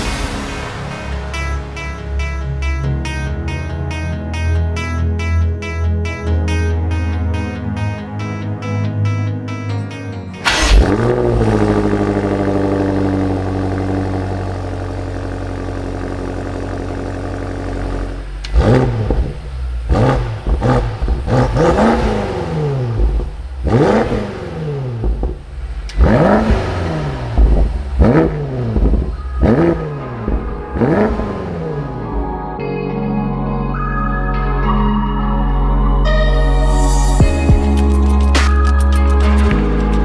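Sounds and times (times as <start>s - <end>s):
car engine idling and revving: 0.0s - 9.5s, 10.4s - 32.6s, 36.6s - 40.0s.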